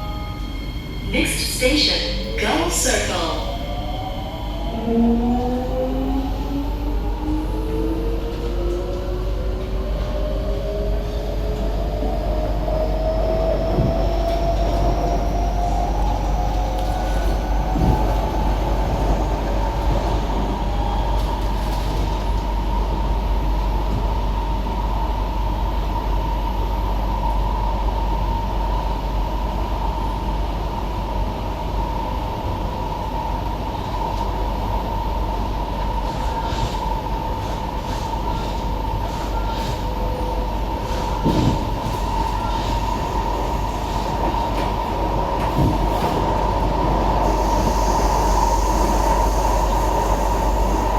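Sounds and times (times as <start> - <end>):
high train whine: 0.0 - 50.9
train wheels rumbling on rail: 0.5 - 26.6, 29.1 - 50.9.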